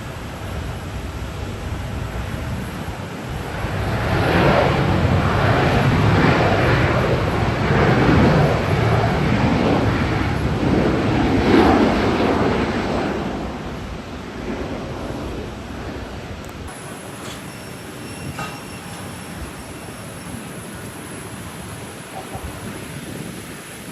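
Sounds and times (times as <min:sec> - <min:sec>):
jet airliner engine roar: 0:00.0 - 0:23.9.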